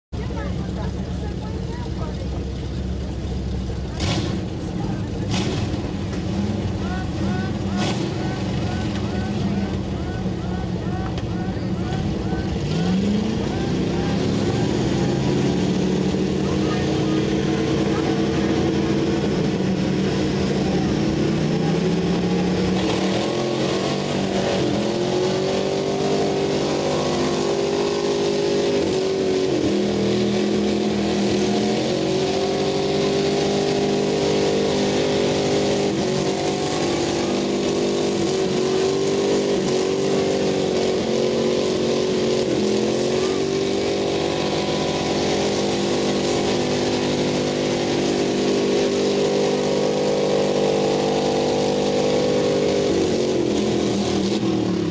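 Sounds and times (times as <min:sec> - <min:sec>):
truck engines revving high: 0:00.0 - 0:54.9.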